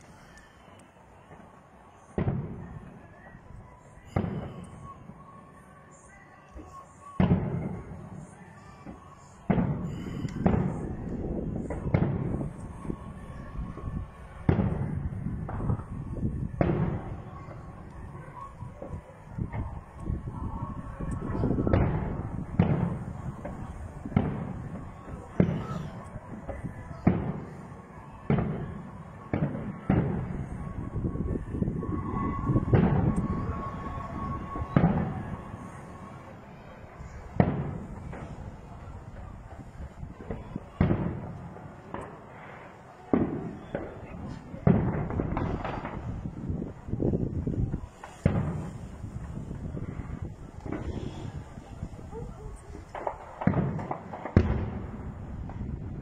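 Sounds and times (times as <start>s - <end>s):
firework booms: 1.2s - 5.2s, 6.7s - 56.0s.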